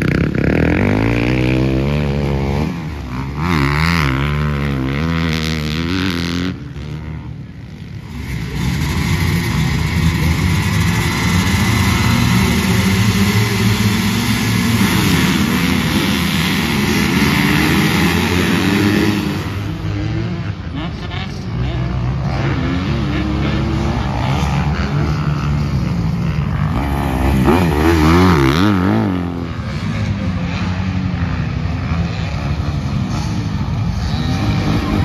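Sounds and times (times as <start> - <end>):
dirt bike engine revving: 0.0 - 35.0
motocross bikes engine drone: 0.0 - 35.0.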